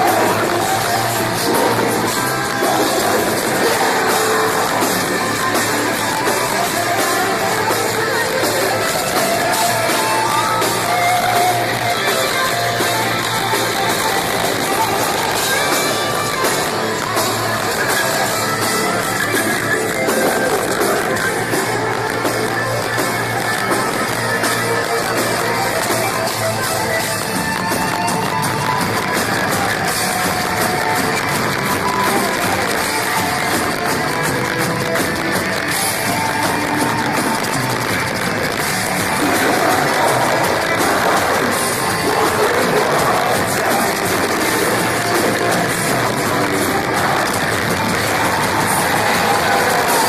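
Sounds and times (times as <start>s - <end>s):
metalcore band playing live: 0.0s - 50.0s.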